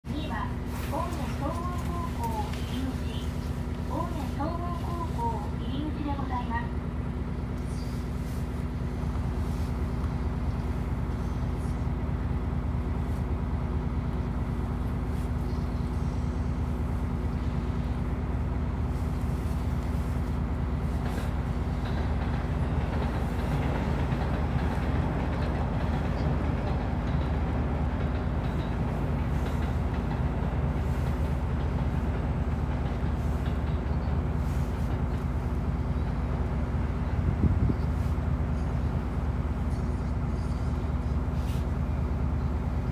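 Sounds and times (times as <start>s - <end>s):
bus diesel engine idling: 0.0s - 42.9s.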